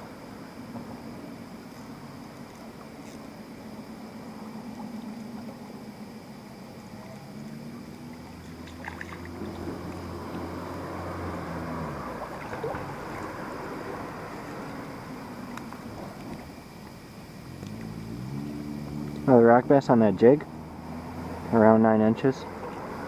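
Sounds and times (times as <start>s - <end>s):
low engine hum passing: 0.0s - 23.0s
river water flowing: 0.0s - 23.0s.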